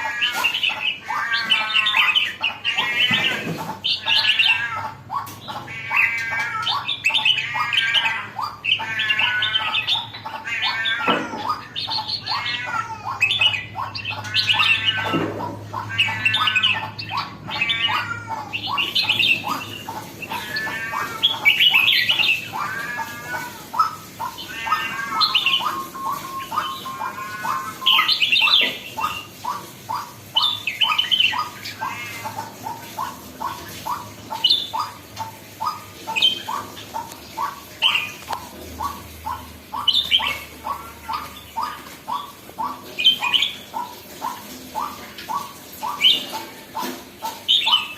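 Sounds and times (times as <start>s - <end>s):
bird chattering notes: 0.0s - 47.9s
bird warbling song: 0.0s - 47.9s.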